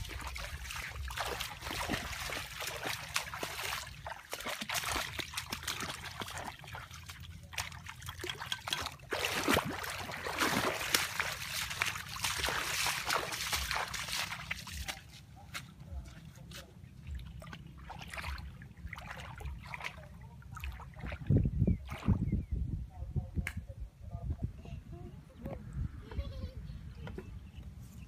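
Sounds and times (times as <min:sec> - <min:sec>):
muddy water sloshing and splashing: 0:00.0 - 0:22.6.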